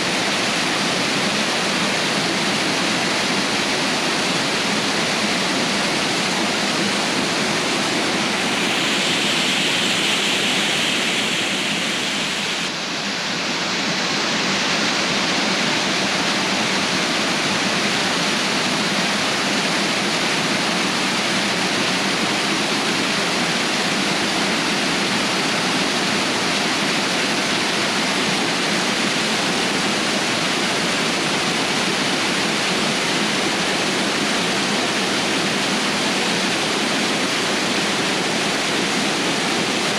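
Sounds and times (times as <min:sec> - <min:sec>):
waterfall and creek rushing: 0:00.0 - 0:39.9.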